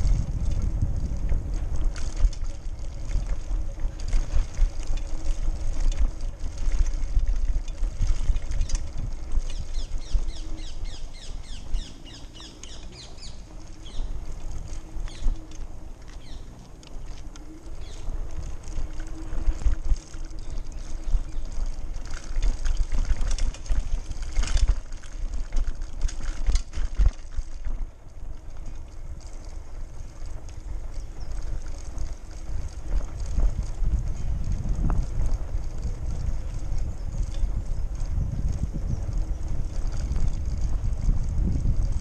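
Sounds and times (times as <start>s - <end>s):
bike and basket rattling: 0.0s - 42.0s
wind rumbling on microphone: 0.0s - 42.0s.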